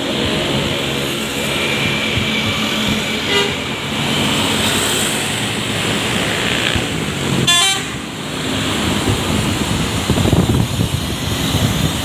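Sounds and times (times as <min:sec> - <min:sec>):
bus engine running: 0:00.0 - 0:12.0
road noise: 0:00.0 - 0:12.0.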